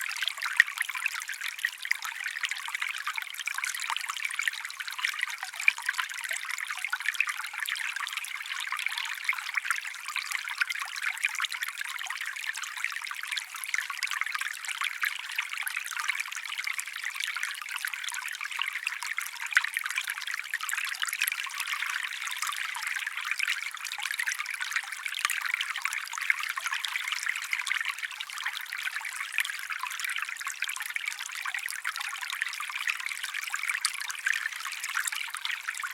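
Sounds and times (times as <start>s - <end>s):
stream trickling: 0.0s - 35.9s.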